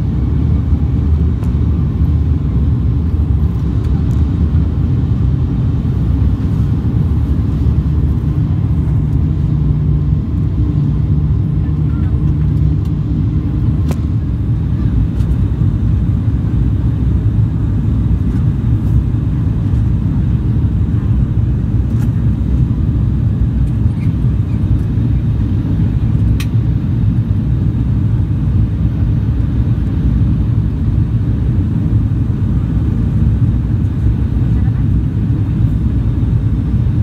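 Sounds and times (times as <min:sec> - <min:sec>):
turboprop cabin drone: 0:00.0 - 0:37.0.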